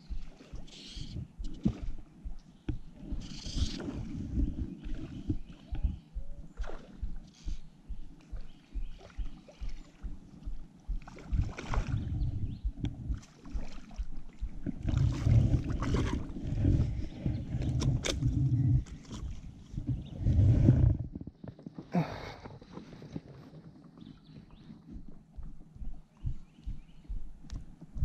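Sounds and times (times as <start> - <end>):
water splashing and sloshing: 0.0 - 26.1.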